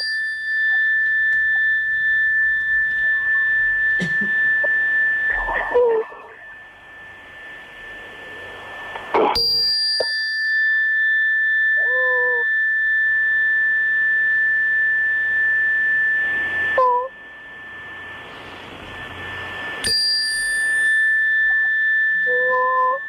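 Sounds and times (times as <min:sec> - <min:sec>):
metal chime ringing: 0:00.0 - 0:08.8, 0:09.4 - 0:13.3, 0:15.0 - 0:23.0.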